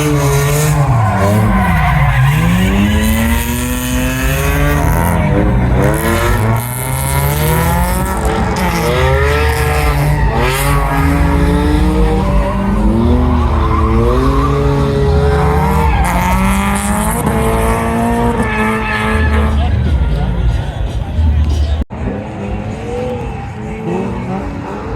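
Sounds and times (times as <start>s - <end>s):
car engine revving hard: 0.0s - 20.3s
tires squealing and skidding: 0.0s - 24.9s.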